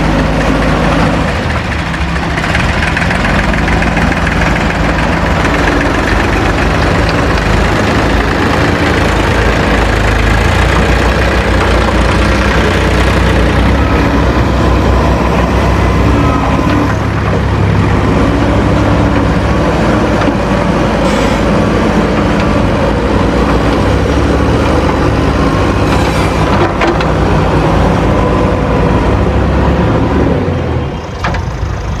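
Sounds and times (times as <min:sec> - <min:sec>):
heavy diesel engines working: 0:00.0 - 0:32.0.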